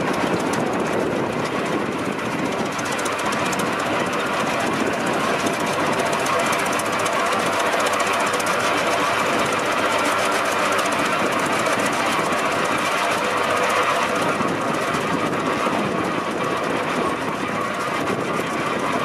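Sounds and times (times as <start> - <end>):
tractor engine clattering: 0.0 - 19.0.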